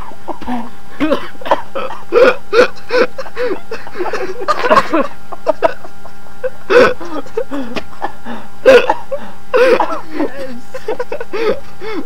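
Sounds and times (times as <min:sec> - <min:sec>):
people laughing and gasping: 0:00.0 - 0:01.1, 0:02.2 - 0:12.0.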